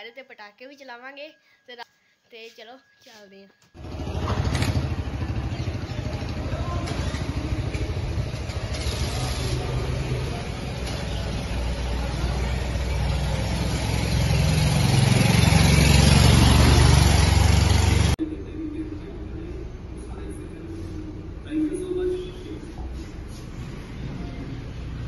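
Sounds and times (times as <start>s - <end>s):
vehicle engine droning: 3.8s - 25.0s.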